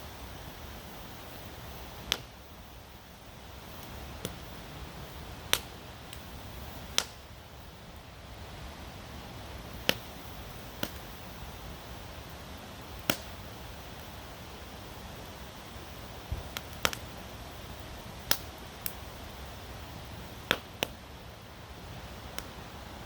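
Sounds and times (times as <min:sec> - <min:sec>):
campfire crackling: 0:00.0 - 0:23.0
burning wood popping: 0:00.8 - 0:23.0.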